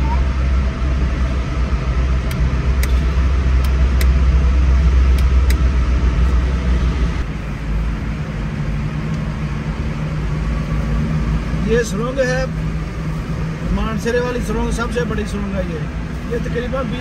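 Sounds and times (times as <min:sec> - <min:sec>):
engine and road noise rumble: 0:00.0 - 0:17.0.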